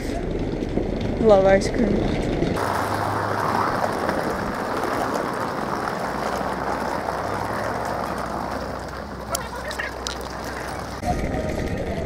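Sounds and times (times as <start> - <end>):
suitcase wheels rolling on brick: 0.1 - 12.0.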